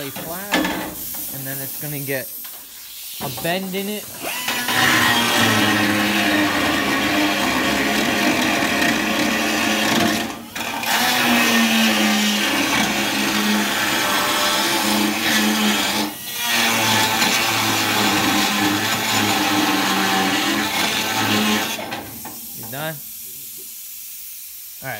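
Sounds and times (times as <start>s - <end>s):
pneumatic tool whining on steel: 0.0s - 23.0s.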